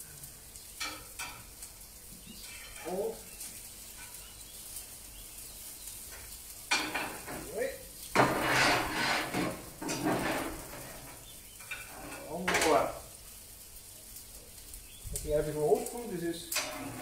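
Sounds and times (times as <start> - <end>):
food sizzling on a grill plate: 0.0 - 17.0
scraping on a grill plate: 0.5 - 17.0.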